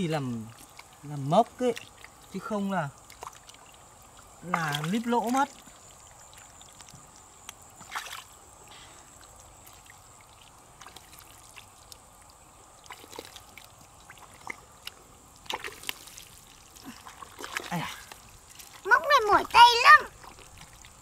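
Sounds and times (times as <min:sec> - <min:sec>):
muddy water sloshing: 0:00.0 - 0:21.0
small splashes: 0:00.0 - 0:21.0.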